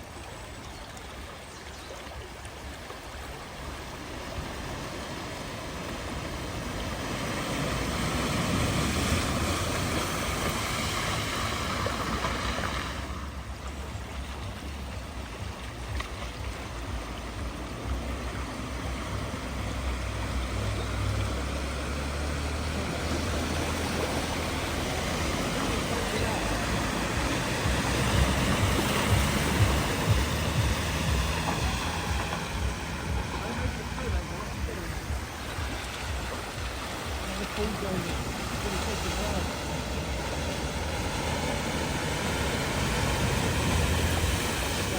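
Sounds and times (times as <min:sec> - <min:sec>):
floodwater rushing: 0:00.0 - 0:44.9
vehicle engine at low revs: 0:02.6 - 0:44.9.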